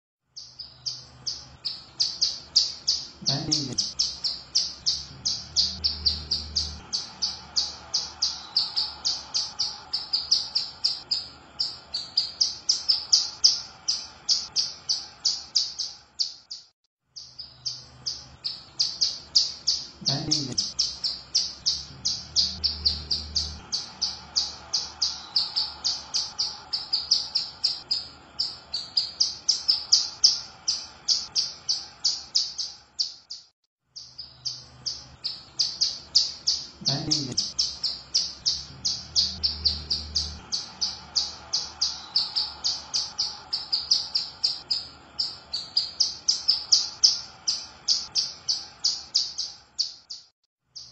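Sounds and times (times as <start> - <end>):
bird calling in high sharp chirps: 0.4 - 50.9.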